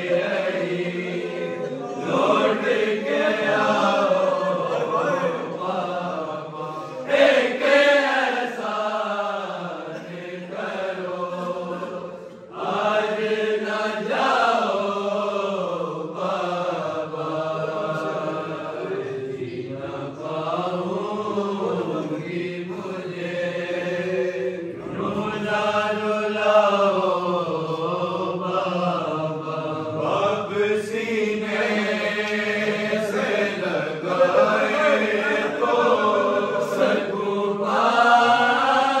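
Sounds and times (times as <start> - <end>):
men chanting a lament: 0.0 - 39.0.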